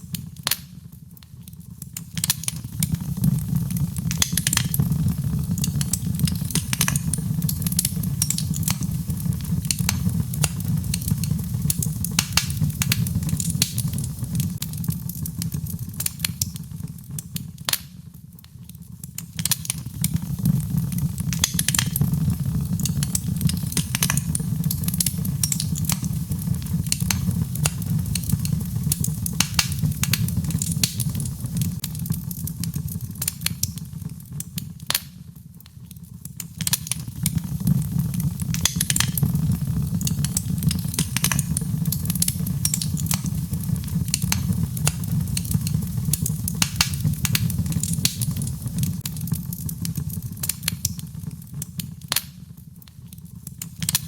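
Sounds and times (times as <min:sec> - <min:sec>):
fire rumbling: 0:00.0 - 0:17.8, 0:19.0 - 0:52.2
fire crackling and popping: 0:00.0 - 0:54.0.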